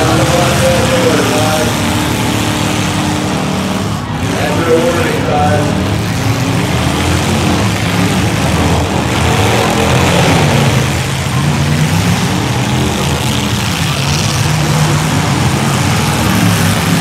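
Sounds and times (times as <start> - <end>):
car engines revving loudly: 0.0 - 17.0.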